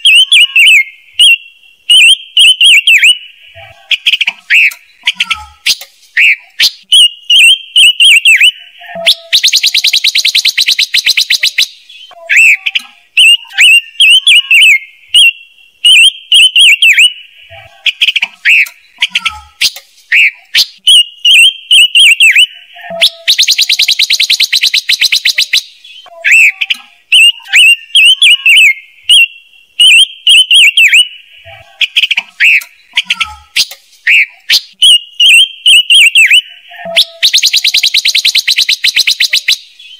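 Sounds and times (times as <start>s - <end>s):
bird chirping from loudspeaker: 0.0s - 39.9s.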